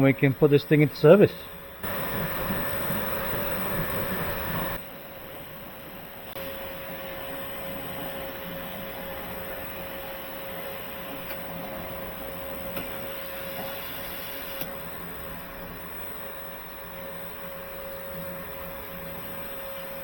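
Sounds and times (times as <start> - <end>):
mid-pitched whine: 0.0 - 20.0
pump hum: 1.4 - 20.0.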